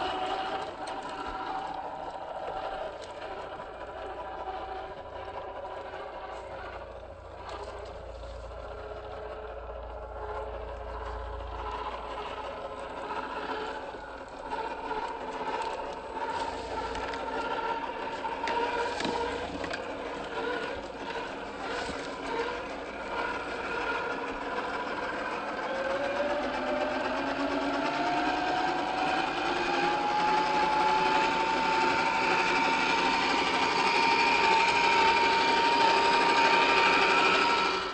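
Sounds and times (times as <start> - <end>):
electric motor and gear whine: 0.0 - 37.9.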